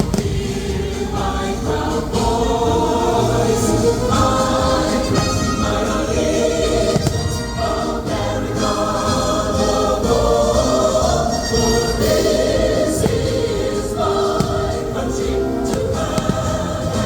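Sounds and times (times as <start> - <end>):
choir singing with music: 0.0 - 17.0.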